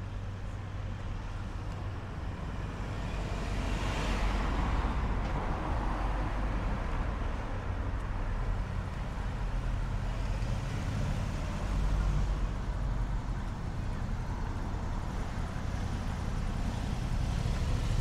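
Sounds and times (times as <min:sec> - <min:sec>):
low traffic rumble: 0:00.0 - 0:18.0.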